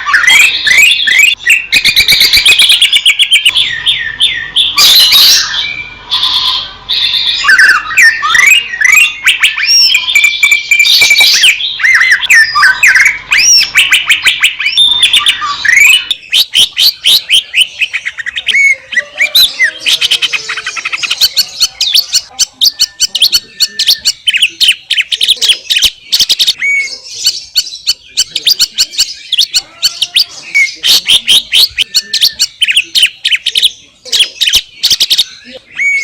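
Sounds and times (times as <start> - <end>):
bird chirping and whistling: 0.0 - 36.0.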